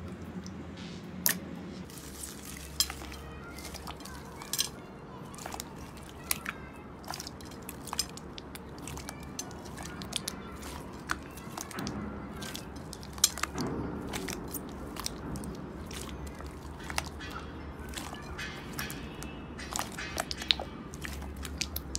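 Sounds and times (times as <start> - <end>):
slime squishing: 1.2 - 21.9.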